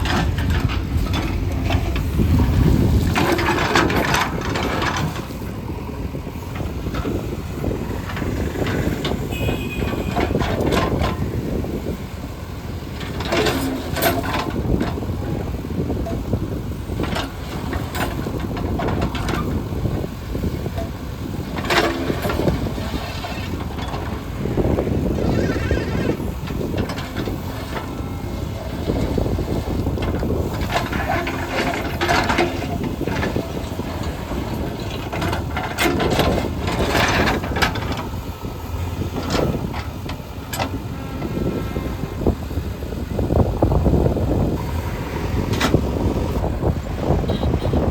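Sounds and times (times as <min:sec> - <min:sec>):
diesel construction machinery running: 0:00.0 - 0:47.9.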